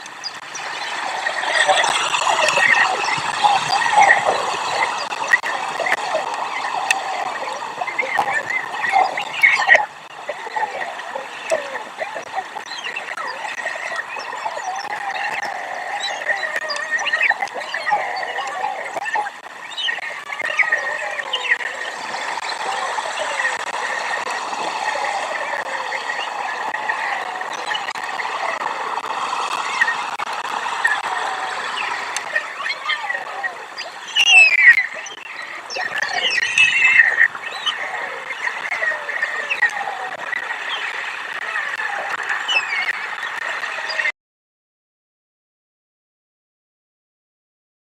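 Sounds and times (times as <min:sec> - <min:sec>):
birds chirping and whistling: 0:00.0 - 0:39.8
steady hiss: 0:00.0 - 0:42.4.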